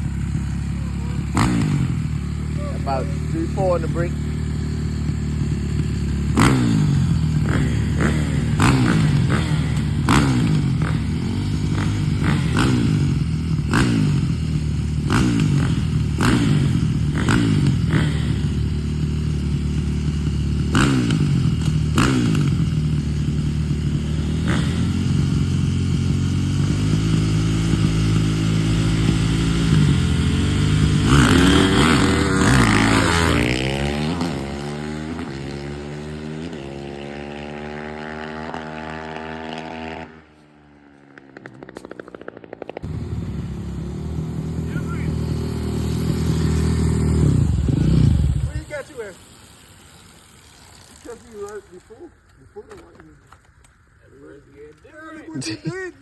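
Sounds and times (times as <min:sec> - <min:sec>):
dirt bike passing by: 0:00.0 - 0:52.2
dirt bike engines revving: 0:00.0 - 0:56.0.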